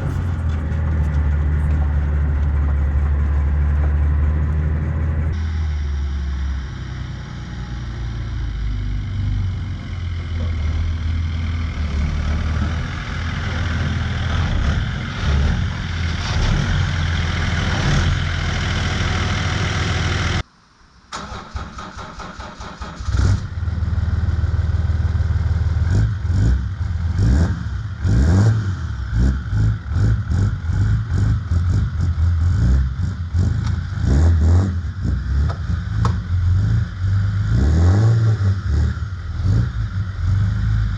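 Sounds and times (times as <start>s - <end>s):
diesel engine running: 0.0s - 20.4s, 23.0s - 40.9s.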